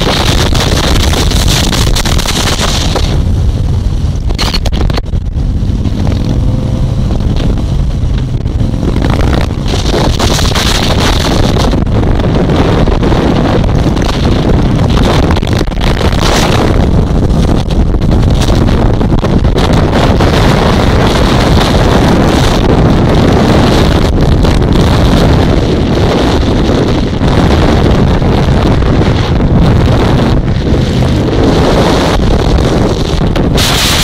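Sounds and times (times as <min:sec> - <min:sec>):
motorcycle engine rumble: 0:00.0 - 0:34.0
wind buffeting microphone: 0:00.0 - 0:34.0.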